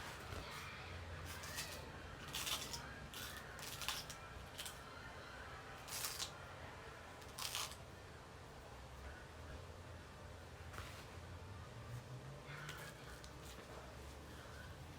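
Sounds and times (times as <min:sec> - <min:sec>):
faint low hum: 0:00.0 - 0:14.9.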